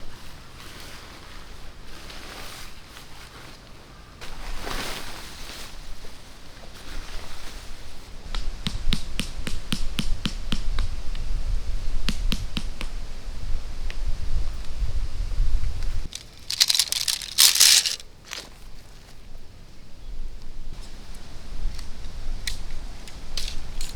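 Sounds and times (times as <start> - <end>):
rustle: 0.0 - 23.9.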